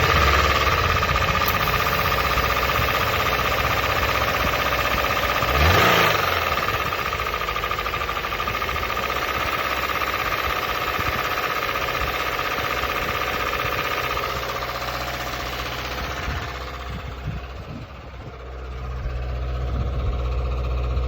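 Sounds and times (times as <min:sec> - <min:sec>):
car engine idling with knock: 0:00.0 - 0:21.0.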